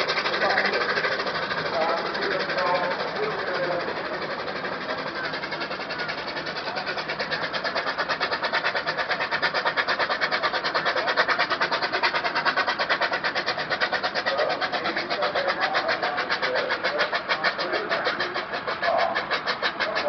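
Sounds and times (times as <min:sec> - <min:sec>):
steam roller exhaust beats: 0:00.0 - 0:20.0.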